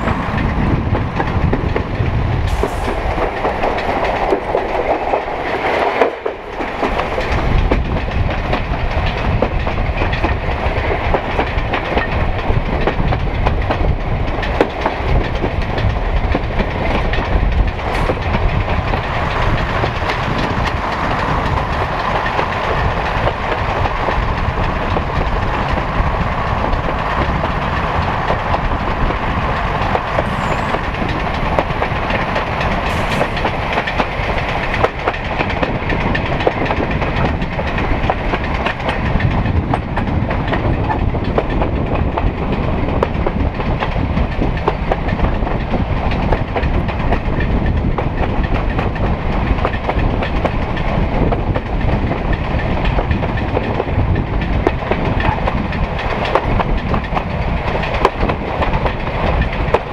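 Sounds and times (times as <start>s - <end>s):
diesel railcar rumble: 0.0s - 59.9s
wheels clicking over rail joints: 0.0s - 59.9s.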